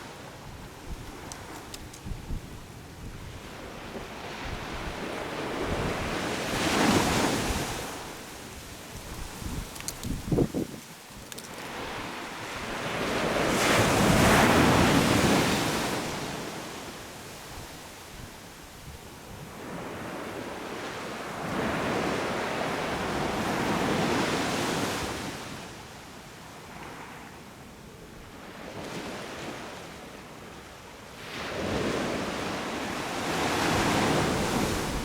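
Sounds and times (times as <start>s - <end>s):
waves breaking on beach: 0.0s - 25.8s, 31.2s - 35.0s.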